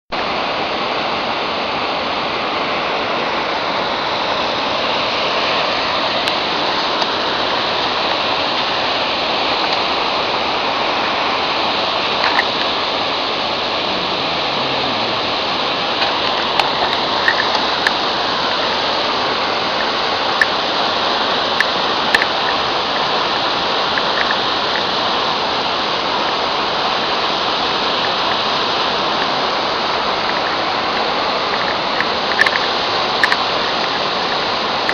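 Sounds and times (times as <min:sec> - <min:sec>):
waterfall and stream rushing: 0:00.1 - 0:34.9.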